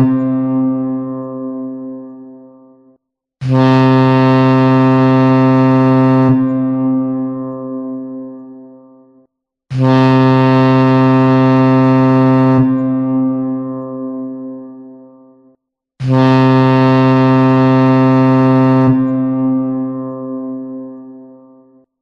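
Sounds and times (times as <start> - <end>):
deep ship's horn blasts: 0.0 - 2.7, 3.4 - 9.1, 9.8 - 15.4, 16.0 - 21.8.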